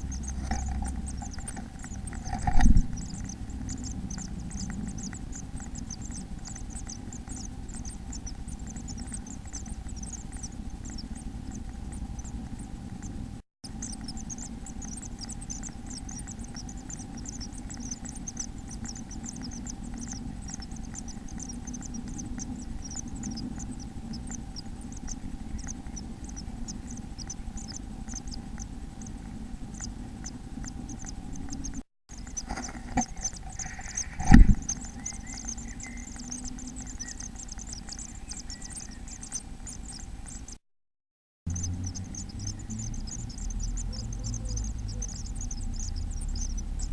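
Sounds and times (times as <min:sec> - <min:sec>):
low hum: 0:00.0 - 0:40.6, 0:41.5 - 0:46.9
nestlings twittering: 0:00.0 - 0:40.6, 0:41.5 - 0:46.9.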